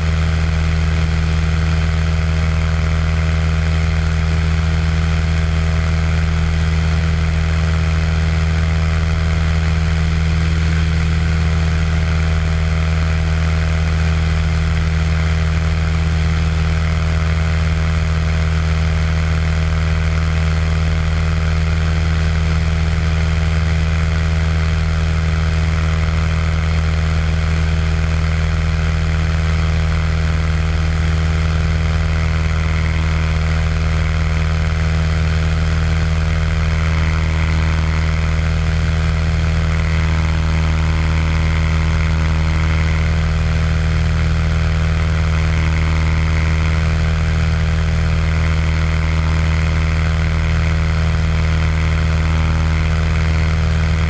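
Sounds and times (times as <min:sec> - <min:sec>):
propeller plane engine drone: 0:00.0 - 0:54.0.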